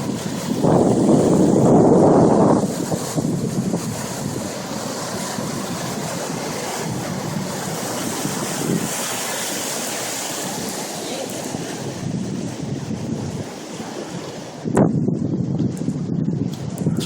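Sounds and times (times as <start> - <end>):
rushing creek water: 0.0 - 14.7
wind gusting on microphone: 0.0 - 17.0.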